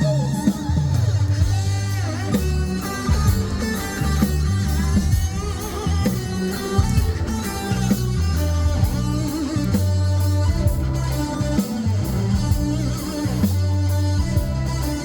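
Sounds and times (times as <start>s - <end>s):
bass notes: 0.0s - 15.0s
electric guitar: 0.0s - 15.0s
steady drum beat: 0.0s - 15.0s.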